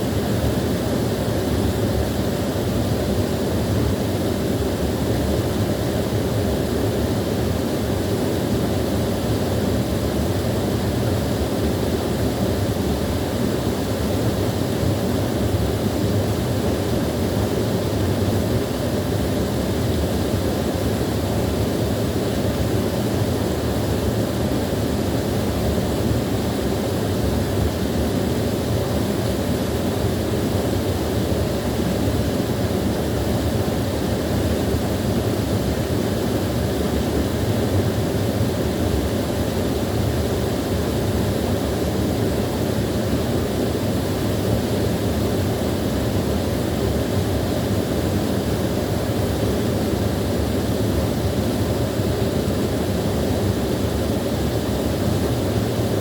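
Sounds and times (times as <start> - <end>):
small waterfall rushing: 0.0 - 56.0.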